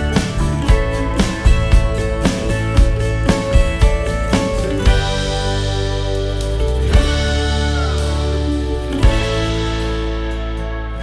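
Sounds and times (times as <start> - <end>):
guitar-driven pop-country music: 0.0 - 11.0.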